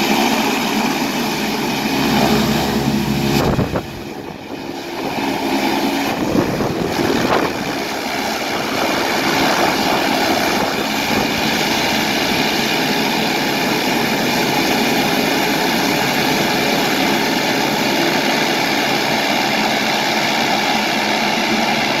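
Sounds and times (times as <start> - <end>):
turboprop engines running: 0.0 - 22.0.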